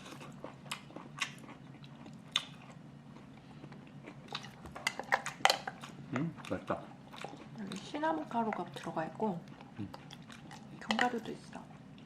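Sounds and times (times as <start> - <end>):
person chewing oatmeal: 0.0 - 12.0.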